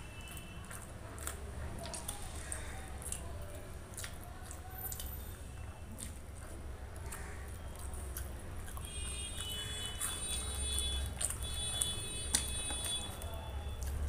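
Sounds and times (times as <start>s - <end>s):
wet chewing and mouth clicks: 0.0s - 14.0s.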